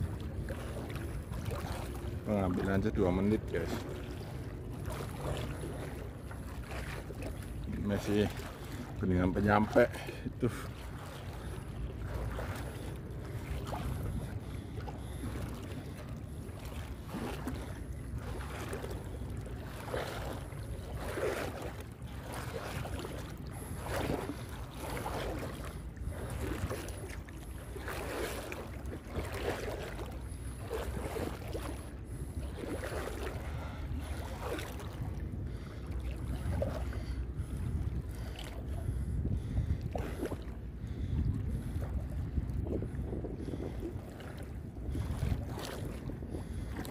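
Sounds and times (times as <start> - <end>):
low steady rumble: 0.0 - 46.9
wading through water splashing: 0.0 - 46.9.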